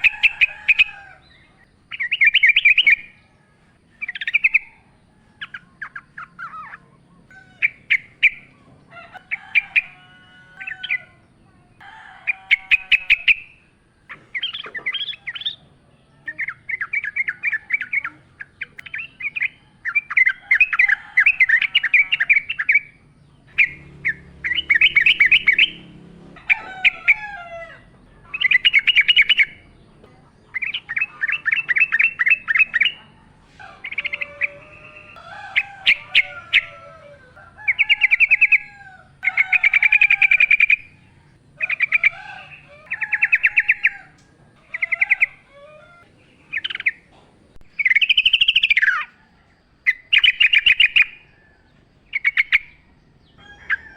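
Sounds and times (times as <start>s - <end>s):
lower bird calls: 0.0s - 53.9s.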